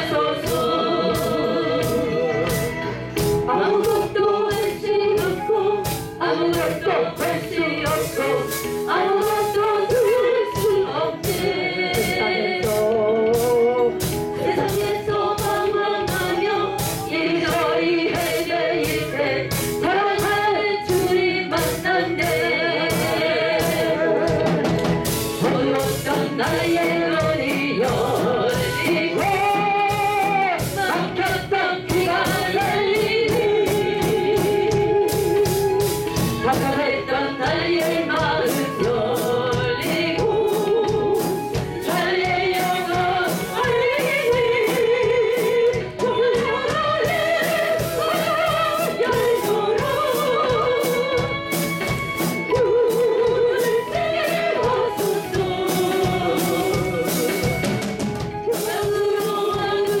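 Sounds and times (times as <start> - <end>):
choir singing gospel: 0.0 - 60.0
drum kit beat: 0.0 - 60.0
live band: 0.0 - 60.0.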